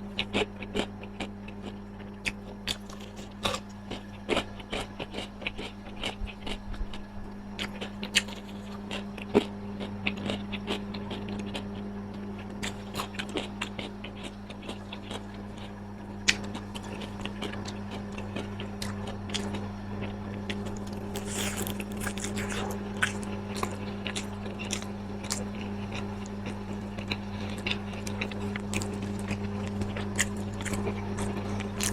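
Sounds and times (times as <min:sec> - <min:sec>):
steady low hum: 0:00.0 - 0:31.9
person chewing and biting food: 0:00.2 - 0:31.9.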